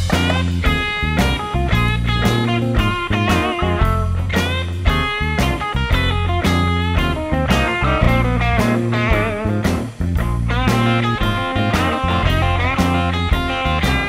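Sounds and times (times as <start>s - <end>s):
bluesy rock music: 0.0s - 14.0s.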